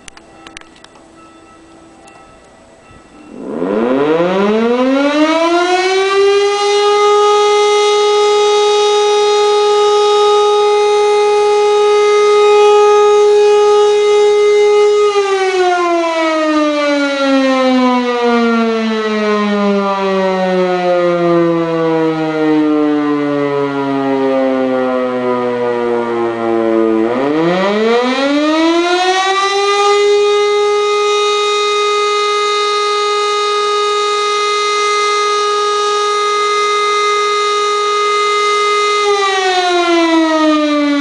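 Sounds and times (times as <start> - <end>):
electro-mechanical fire siren: 0.0 - 41.0.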